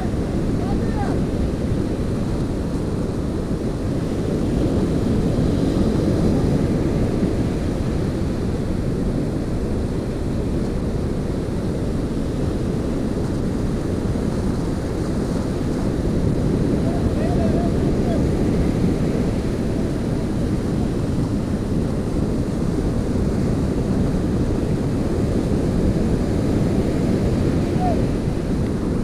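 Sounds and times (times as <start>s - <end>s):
surf breaking on beach: 0.0s - 29.0s
wind buffeting microphone: 0.0s - 29.0s.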